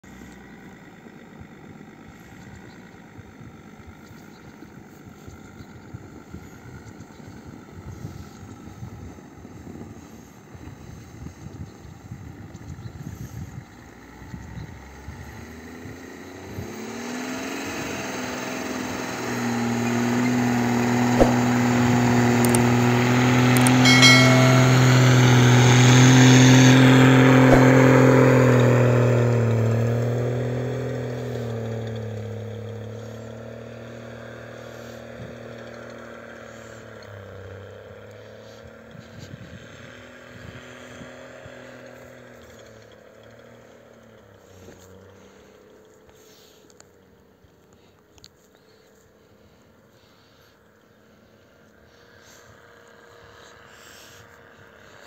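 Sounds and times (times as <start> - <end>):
diesel engine driving: 0.0 - 23.8, 24.7 - 49.9.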